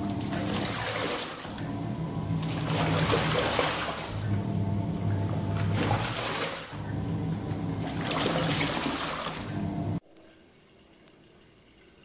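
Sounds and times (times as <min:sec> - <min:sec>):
washing machine motor humming: 0:00.0 - 0:10.0
water sloshing: 0:00.0 - 0:10.0.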